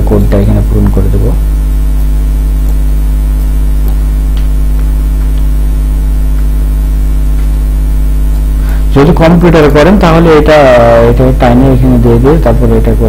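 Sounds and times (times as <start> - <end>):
loud low electrical hum: 0.0 - 13.0.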